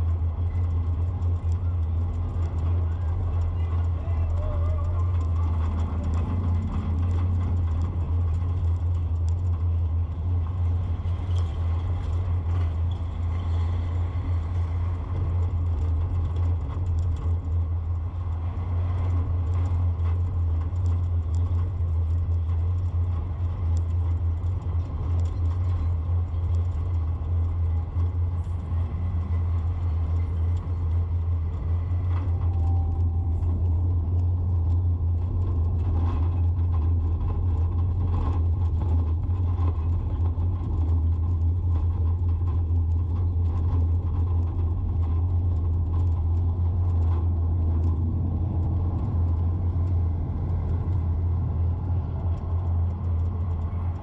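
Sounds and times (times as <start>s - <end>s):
faint clicks and rattles: 0.0s - 54.0s
road noise: 0.0s - 54.0s
vehicle engine drone: 0.0s - 54.0s.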